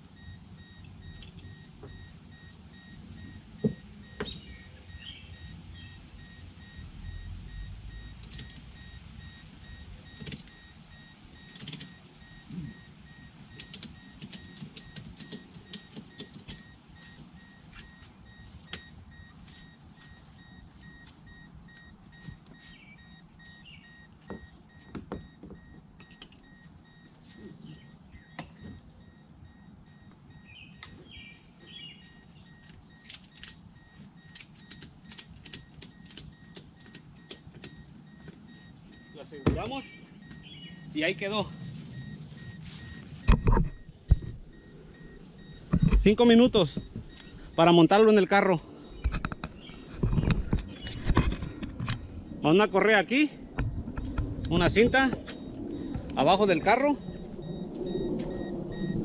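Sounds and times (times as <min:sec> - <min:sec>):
high pulsed beep: 0:00.2 - 0:31.0, 0:31.8 - 0:33.1, 0:37.2 - 0:51.0, 0:51.9 - 0:59.0.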